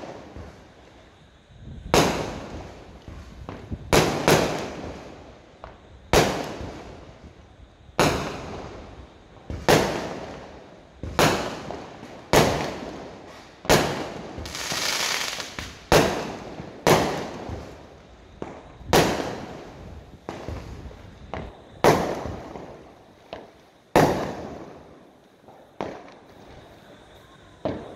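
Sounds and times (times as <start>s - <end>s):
crackling hiss of sparkling stars: 0.0s - 27.9s
fireworks bangs: 0.0s - 27.9s.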